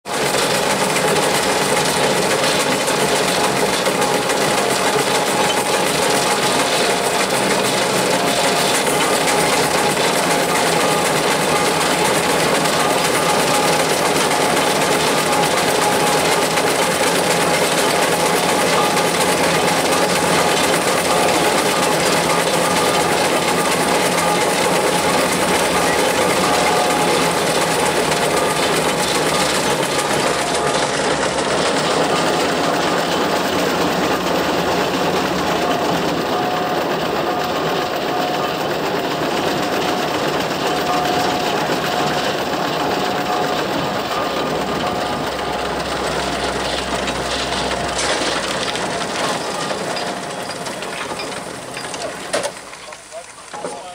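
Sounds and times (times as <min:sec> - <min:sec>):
steam engine clattering: 0:00.1 - 0:53.9.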